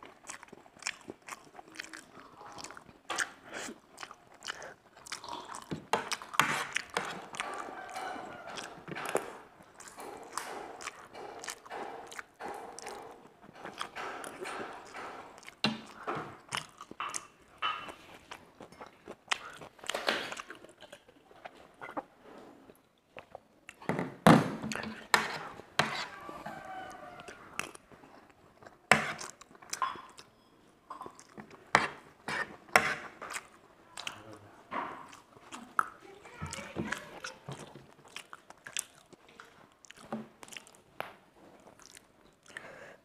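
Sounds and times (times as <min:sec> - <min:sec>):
chewing: 0:00.0 - 0:23.9, 0:24.6 - 0:43.0.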